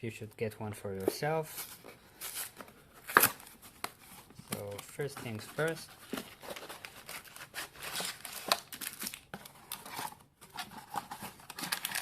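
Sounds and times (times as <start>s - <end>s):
rustling handling noise: 0.8s - 12.0s
packaging crinkling and tearing: 1.6s - 12.0s.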